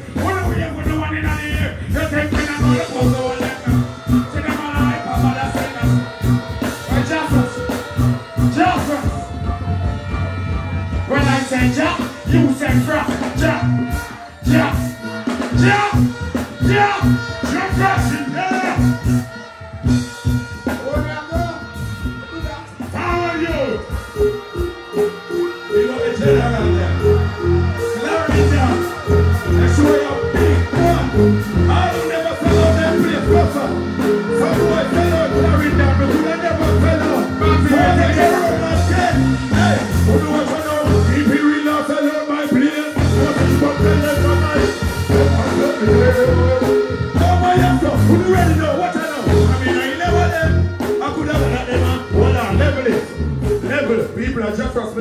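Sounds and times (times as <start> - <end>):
vocalist chanting into microphone: 0.0 - 54.3
bass-heavy backing track: 0.0 - 55.0
live dancehall band music: 0.0 - 55.0.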